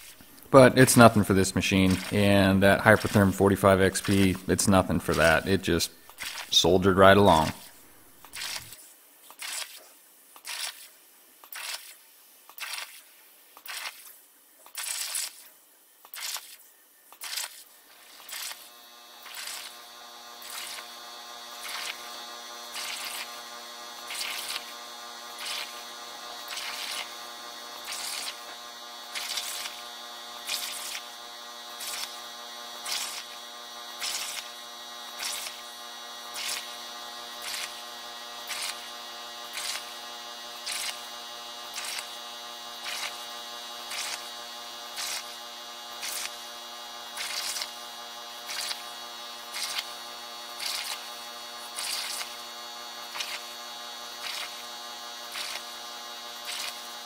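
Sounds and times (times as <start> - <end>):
steady hum of several tones: 0.0 - 8.7, 17.8 - 57.0
plasma torch hissing bursts: 0.0 - 57.0.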